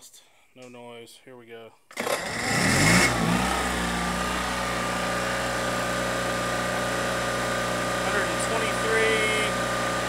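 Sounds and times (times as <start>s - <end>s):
generator starting and running: 1.9s - 10.0s.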